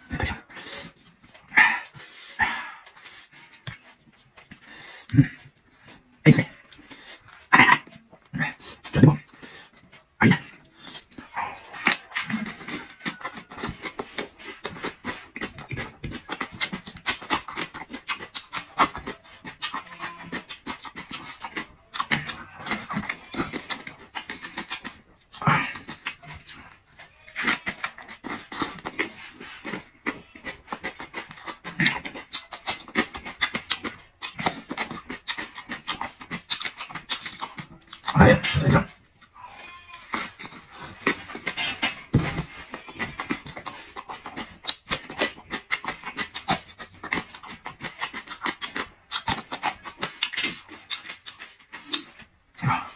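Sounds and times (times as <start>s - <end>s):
person chewing and crunching food: 0.0s - 52.9s.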